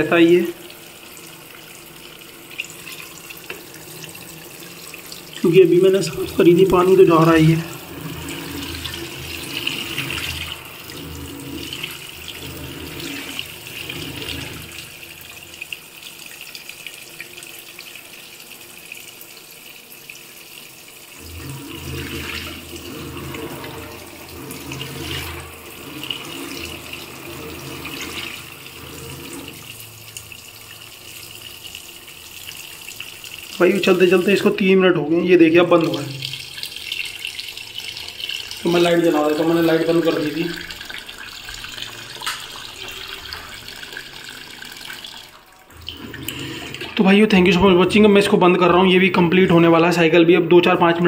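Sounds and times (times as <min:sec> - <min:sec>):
water splashing into washing machine: 0:00.0 - 0:51.0.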